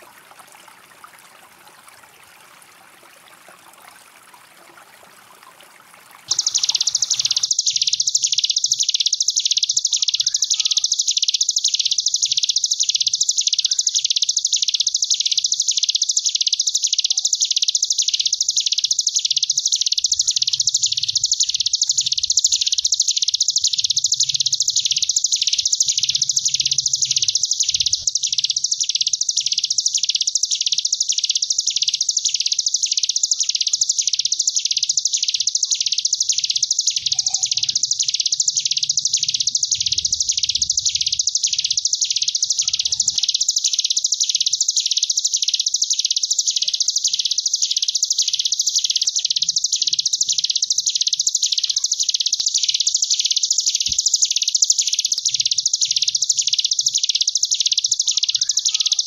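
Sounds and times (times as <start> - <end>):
bird buzzing trill: 6.3 - 59.0.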